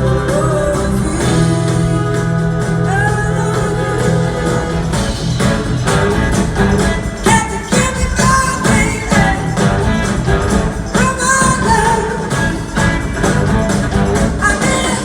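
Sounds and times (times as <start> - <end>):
drum beat: 0.0 - 15.0
live rock band playing: 0.0 - 15.0.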